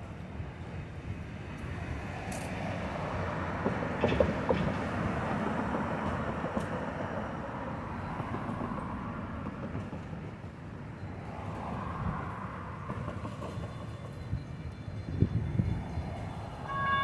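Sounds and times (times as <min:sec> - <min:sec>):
road traffic noise: 0:00.0 - 0:17.0
sharp clacks of cars on rails: 0:01.5 - 0:15.3.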